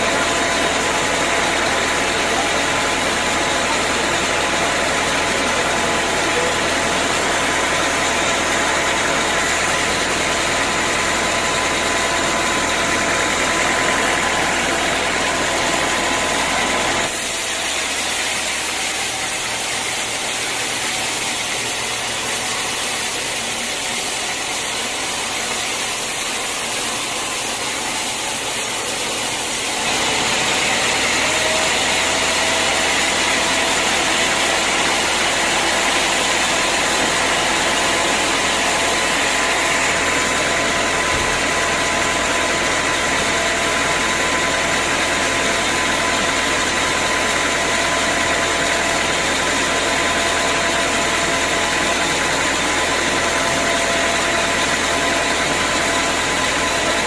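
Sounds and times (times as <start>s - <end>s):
sawmill machinery whining: 0.0s - 57.0s.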